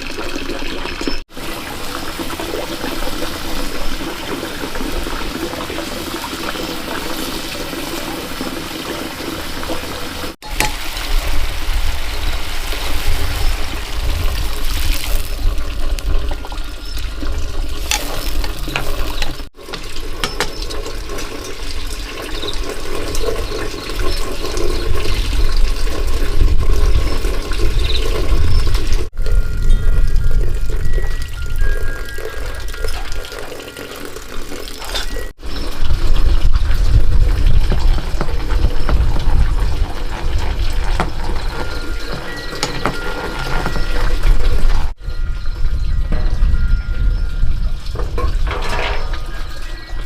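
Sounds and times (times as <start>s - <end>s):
water running and splashing: 0.0s - 29.2s, 30.5s - 45.0s.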